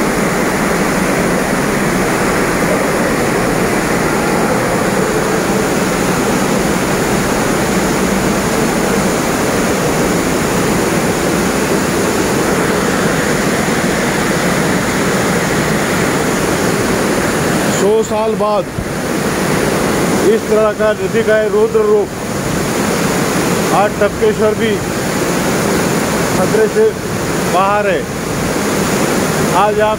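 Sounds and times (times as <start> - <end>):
floodwater rushing: 0.0 - 29.9.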